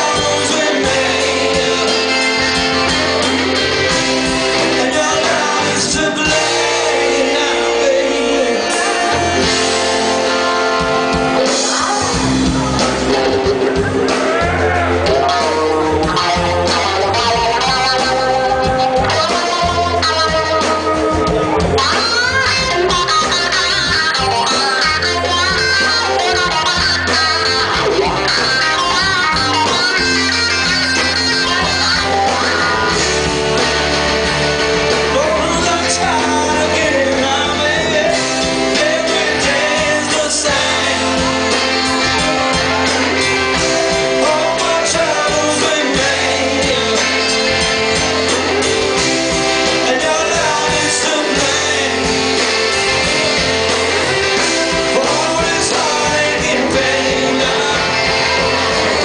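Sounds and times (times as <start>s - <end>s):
bass line: 0.0s - 59.0s
blues-rock band playing: 0.0s - 59.0s
electric guitar: 0.0s - 59.0s.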